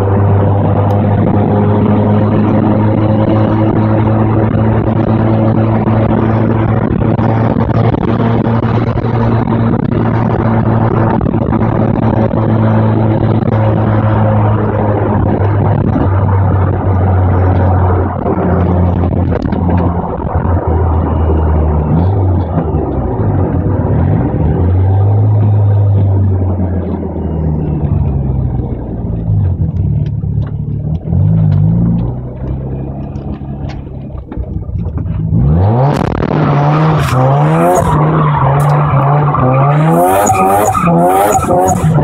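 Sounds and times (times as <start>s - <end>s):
rotary engine driving: 0.0s - 42.0s.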